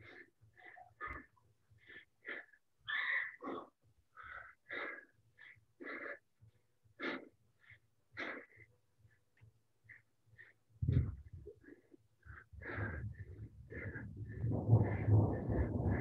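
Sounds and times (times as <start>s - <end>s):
person breathing hard: 0.0s - 9.2s, 9.9s - 16.0s.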